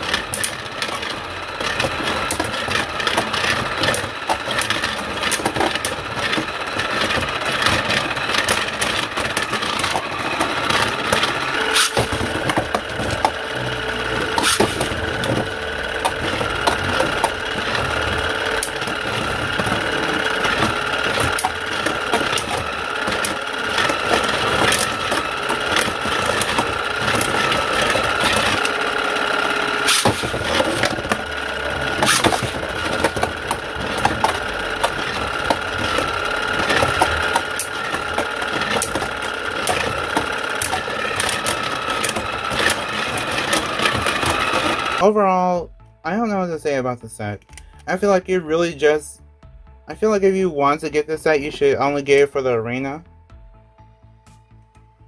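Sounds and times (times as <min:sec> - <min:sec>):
motor whining: 0:00.0 - 0:45.0
spinning tops clacking: 0:00.0 - 0:45.0.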